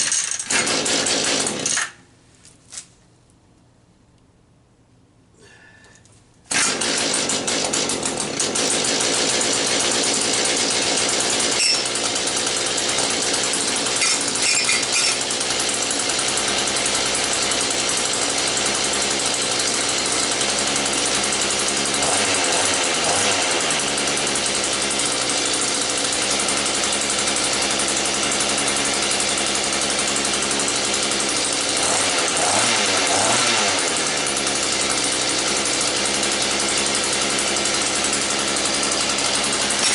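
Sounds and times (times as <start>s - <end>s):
rototiller engine running fast: 0.0s - 1.8s, 6.5s - 39.9s
small engine pull-start: 0.0s - 2.0s, 6.5s - 39.9s.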